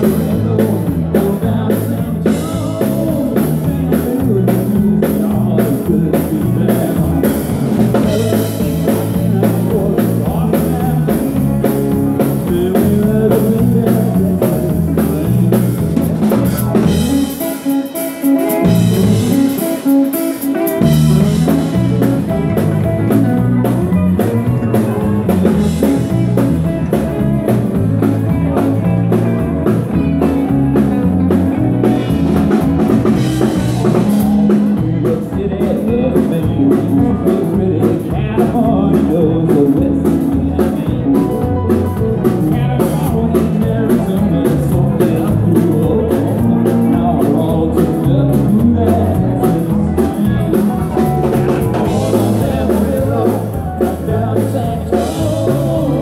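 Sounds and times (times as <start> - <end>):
live band playing dance music: 0.0 - 56.0.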